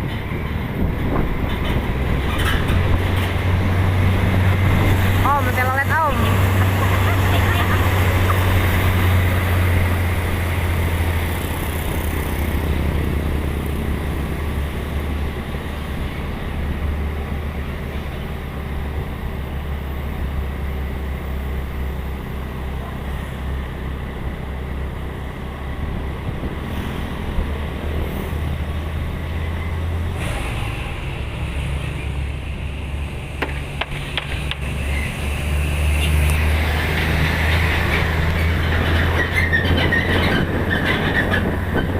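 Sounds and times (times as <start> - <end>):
heavy truck engine droning: 0.0 - 41.9
road and tyre noise: 0.0 - 41.9.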